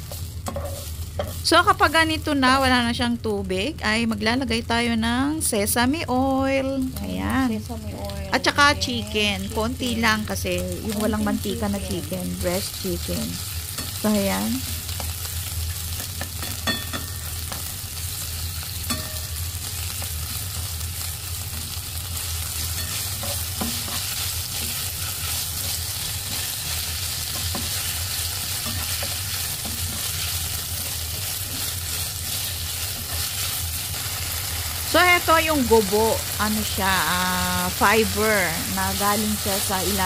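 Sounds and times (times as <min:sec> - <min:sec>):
food sizzling in a pan: 0:00.0 - 0:40.0.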